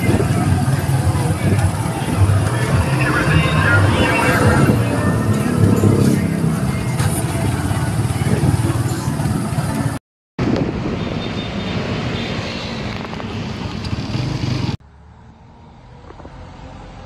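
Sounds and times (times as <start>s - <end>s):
vehicle engine and road rumble: 0.0s - 17.0s
wind: 0.0s - 17.0s.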